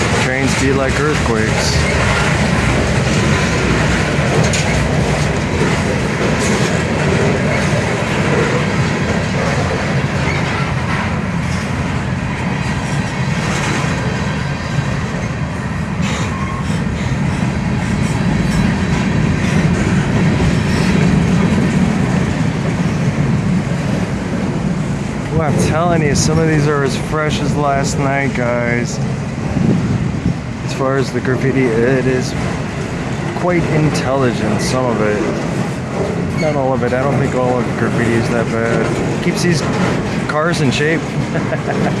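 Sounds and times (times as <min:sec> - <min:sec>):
steel wheels rumbling on rail: 0:00.0 - 0:42.0
wheels clacking over rail joints: 0:00.0 - 0:42.0.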